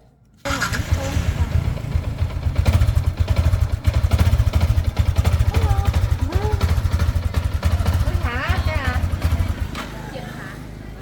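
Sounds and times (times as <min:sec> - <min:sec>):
motorcycle engine idling: 0:00.5 - 0:11.0.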